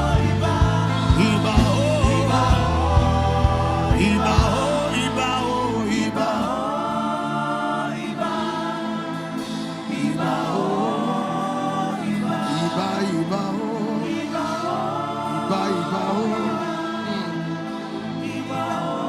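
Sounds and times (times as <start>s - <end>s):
gospel voices singing: 0.0s - 19.0s
sustained accompaniment: 0.0s - 19.0s.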